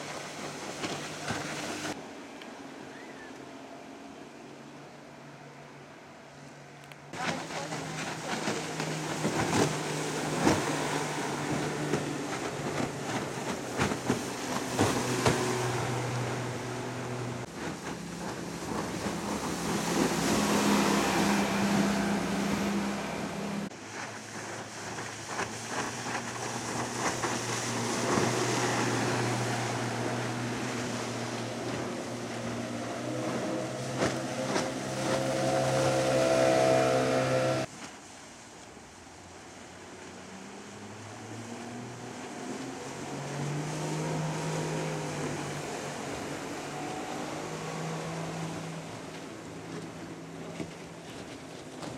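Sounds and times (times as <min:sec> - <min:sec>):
water splashing off hull: 0:00.0 - 0:05.5, 0:06.5 - 0:51.9
outboard motor running: 0:00.0 - 0:37.8, 0:39.2 - 0:51.9.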